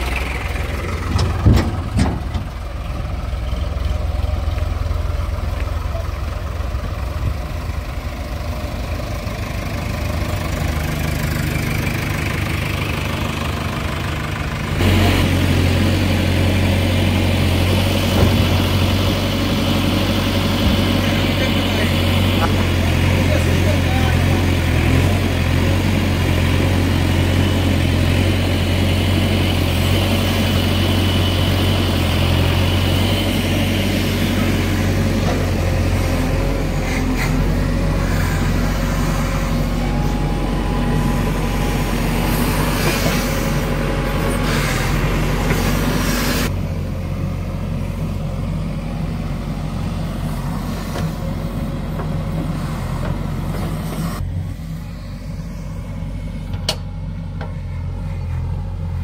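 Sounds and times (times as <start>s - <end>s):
backhoe diesel engine working: 0.0s - 59.0s.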